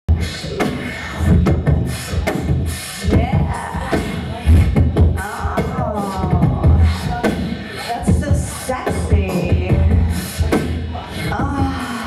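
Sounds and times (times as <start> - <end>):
beatboxing into microphone: 0.1 - 12.0
gliding vocal tones: 0.1 - 12.0.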